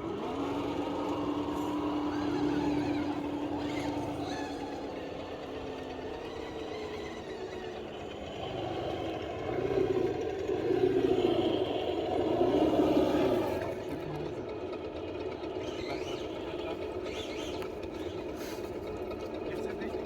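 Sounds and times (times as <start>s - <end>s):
electric motor and gearbox whining: 0.0s - 20.0s.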